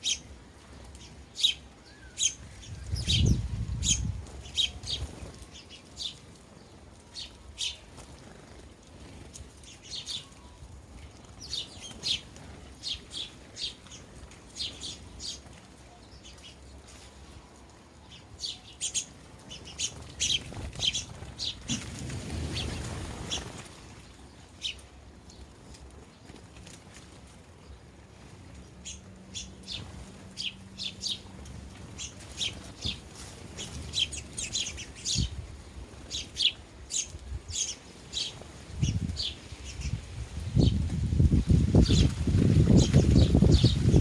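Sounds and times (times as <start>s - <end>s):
sparrows chirping: 0.0s - 44.0s.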